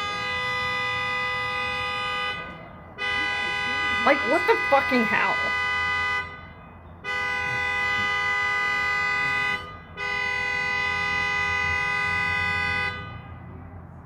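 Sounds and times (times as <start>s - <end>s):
car horn honking: 0.0s - 13.4s.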